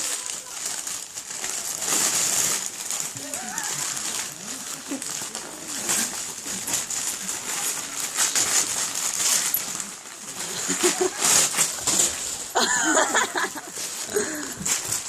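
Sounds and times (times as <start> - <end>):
wrapping paper rustling and tearing: 0.0 - 15.0.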